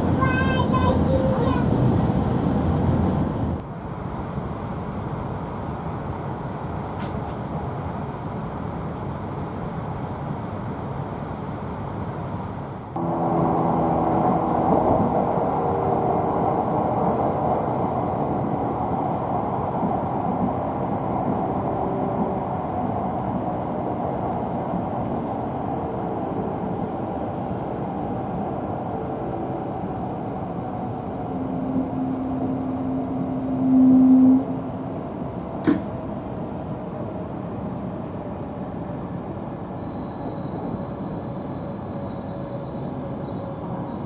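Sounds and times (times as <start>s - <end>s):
train rushing through station: 0.0s - 44.0s.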